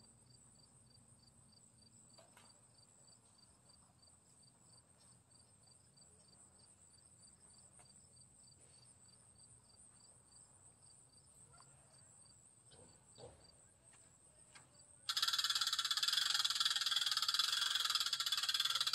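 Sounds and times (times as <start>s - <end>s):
crickets chirping: 0.0s - 18.9s.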